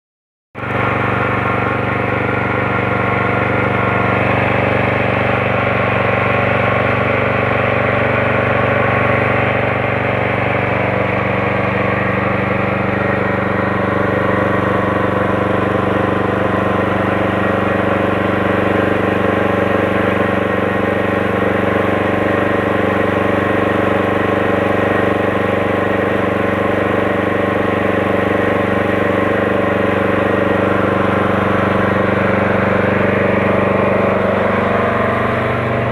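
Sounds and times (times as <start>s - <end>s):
small engine running steadily: 0.6s - 35.9s.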